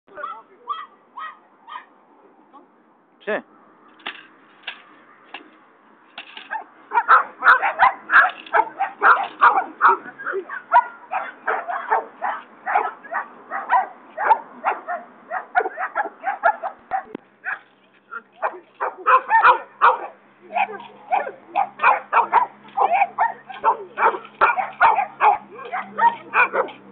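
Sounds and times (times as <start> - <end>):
dogs barking: 0.1 - 1.9, 6.5 - 26.9.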